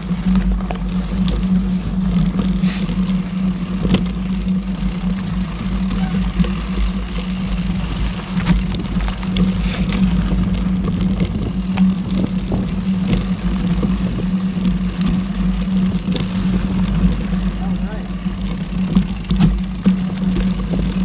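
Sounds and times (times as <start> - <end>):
bike clicks and rattles: 0.0 - 21.0
bike tyres rumbling on dirt: 0.0 - 21.0.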